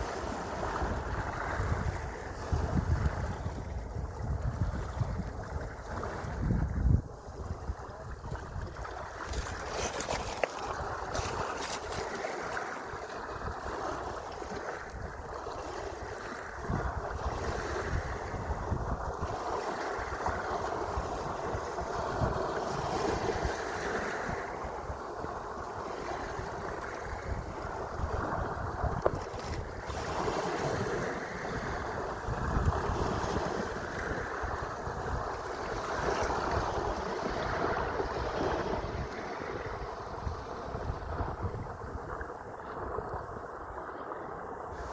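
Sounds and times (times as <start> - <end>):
sea water rushing: 0.0 - 44.9
wind buffeting microphone: 0.0 - 44.9.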